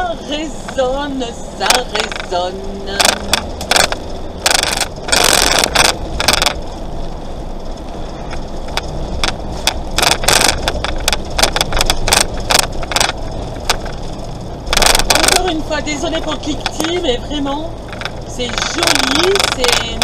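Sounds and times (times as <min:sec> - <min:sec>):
engine rumble: 0:00.0 - 0:20.0
road noise: 0:00.0 - 0:20.0
plastic dashboard rattling: 0:01.6 - 0:20.0.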